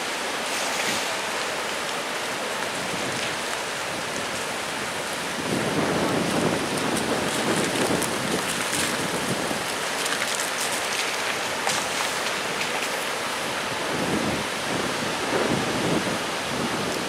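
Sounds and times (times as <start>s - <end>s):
surf breaking and washing: 0.0s - 17.0s
wind buffeting microphone: 2.3s - 17.0s.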